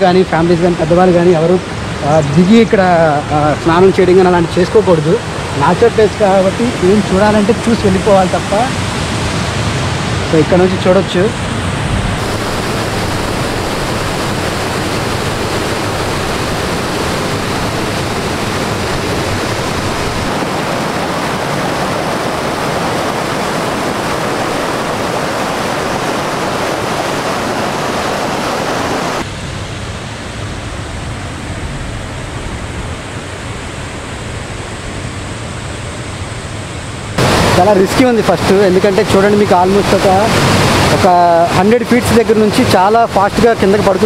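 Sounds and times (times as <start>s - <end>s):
waterfall rushing over rocks: 0.0s - 30.6s, 32.9s - 44.0s.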